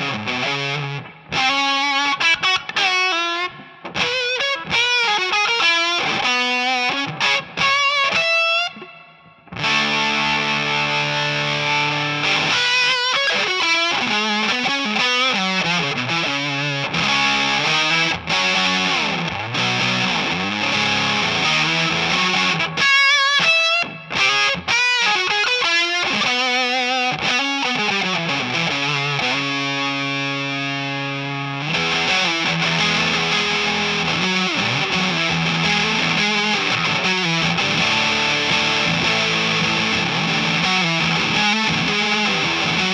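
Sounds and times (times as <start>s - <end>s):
fuzz distorted electric guitar: 0.0s - 42.9s.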